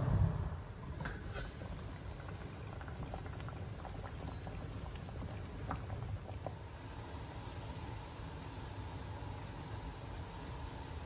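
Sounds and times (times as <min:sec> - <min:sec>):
soup boiling with bubble pops: 0:00.8 - 0:11.0.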